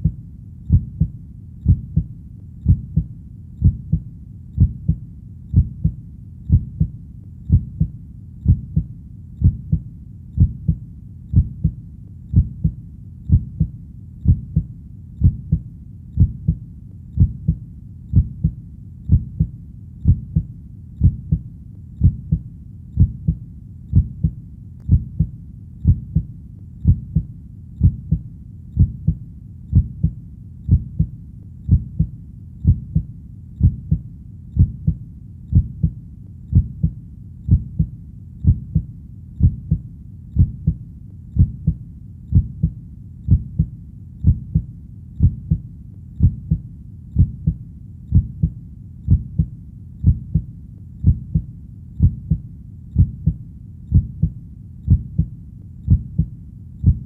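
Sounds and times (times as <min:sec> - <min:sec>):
heartbeat: 0:00.0 - 0:57.0
low steady rumble: 0:00.0 - 0:57.0.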